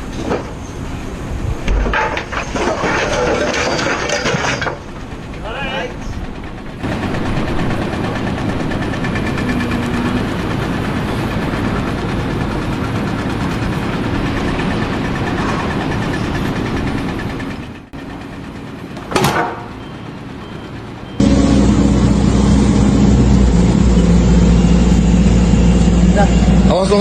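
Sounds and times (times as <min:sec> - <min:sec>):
motor engine running: 0:00.7 - 0:26.8.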